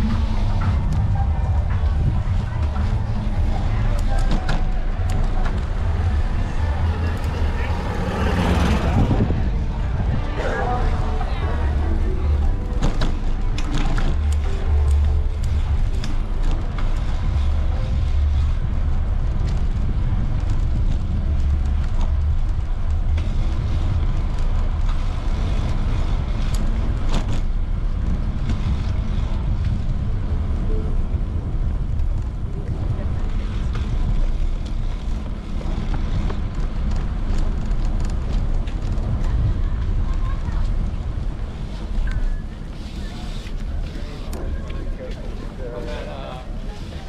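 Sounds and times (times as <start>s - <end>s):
people's voices: 0.0s - 20.4s, 21.1s - 47.0s
wind rumbling on microphone: 0.0s - 47.0s.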